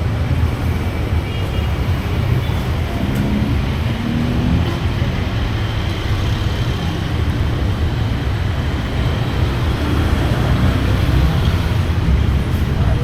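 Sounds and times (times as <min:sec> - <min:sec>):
busy street traffic rumble: 0:00.0 - 0:13.0.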